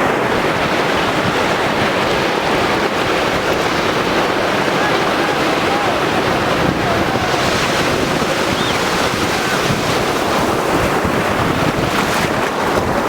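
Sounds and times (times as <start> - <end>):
sea waves breaking: 0.0 - 13.0
wind buffeting microphone: 0.0 - 13.0.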